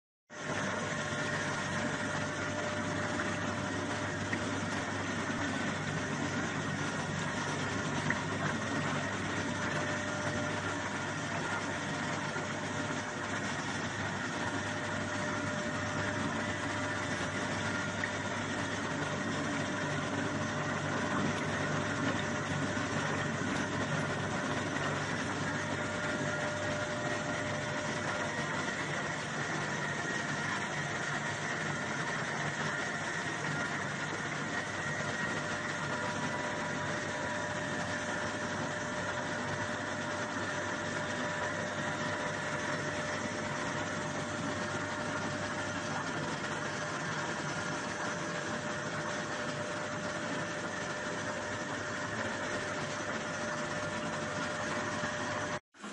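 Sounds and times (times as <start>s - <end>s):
washing machine motor humming: 0.3s - 55.9s.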